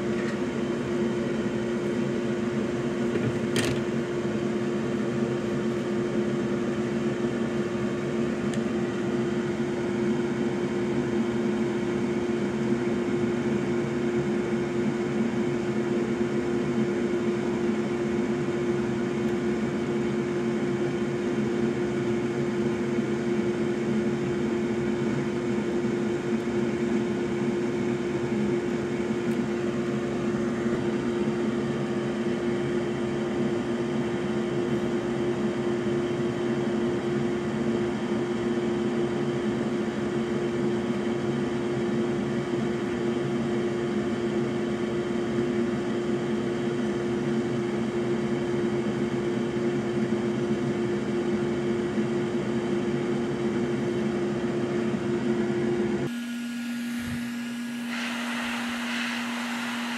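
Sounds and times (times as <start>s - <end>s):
electric fan humming: 0.0s - 41.2s, 52.8s - 59.9s.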